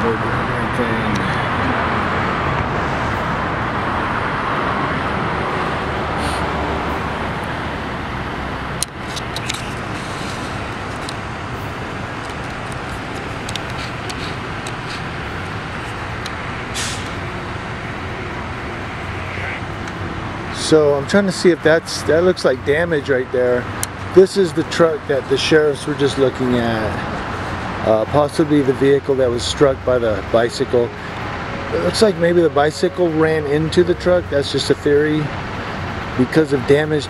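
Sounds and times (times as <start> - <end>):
cars passing: 0.0 - 37.0.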